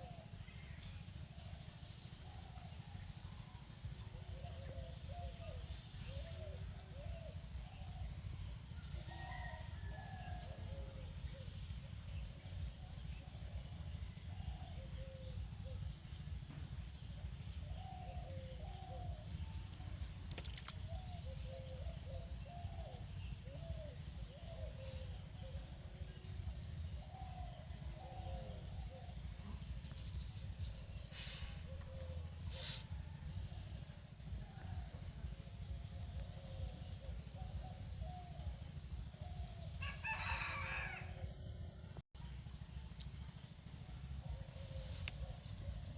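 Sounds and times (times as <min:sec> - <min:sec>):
steady low rumble: 0:00.0 - 0:40.0, 0:41.0 - 0:45.9
birds chirping: 0:00.0 - 0:45.9.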